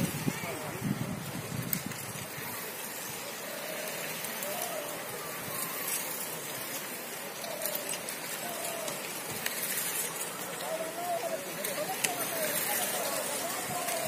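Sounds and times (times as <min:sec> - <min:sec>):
roadside background hiss: 0:00.0 - 0:14.0
distant voices calling out: 0:02.2 - 0:14.0.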